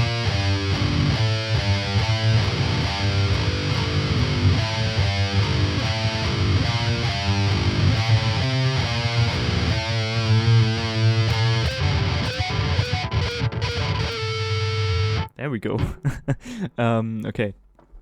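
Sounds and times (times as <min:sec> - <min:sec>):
distorted electric guitar riff: 0:00.0 - 0:15.3.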